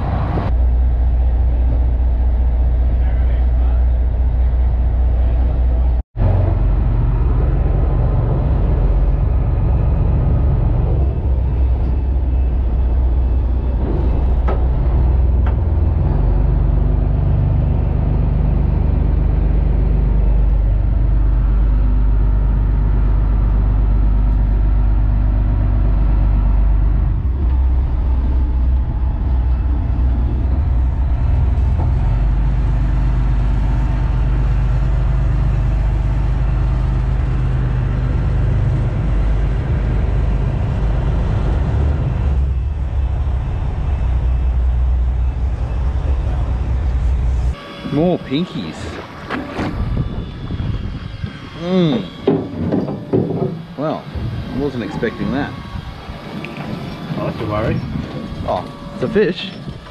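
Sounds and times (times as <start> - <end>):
marine diesel engine rumble: 0.0 - 59.9.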